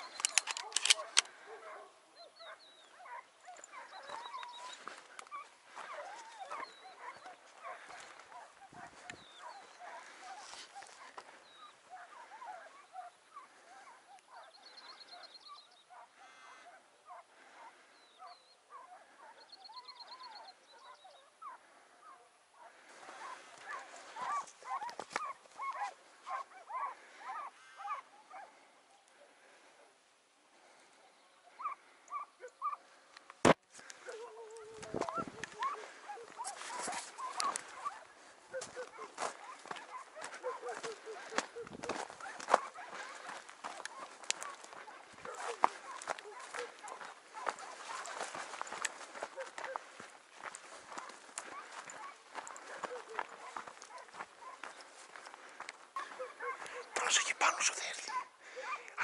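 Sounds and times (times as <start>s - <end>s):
hounds yelping and baying: 0.0s - 59.0s.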